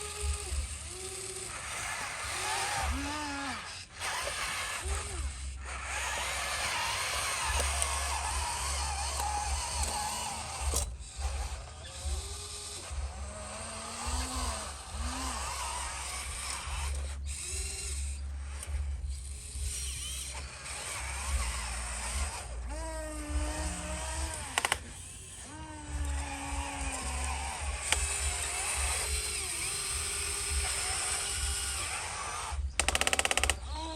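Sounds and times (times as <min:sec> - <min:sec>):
small electric motors whining: 0:00.0 - 0:33.9.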